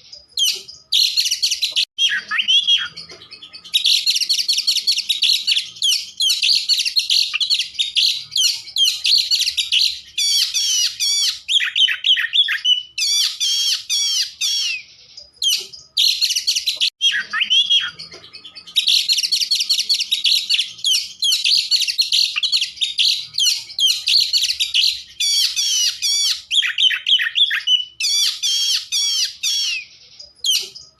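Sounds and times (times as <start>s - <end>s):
bird singing trills and whistles: 0.0s - 30.9s.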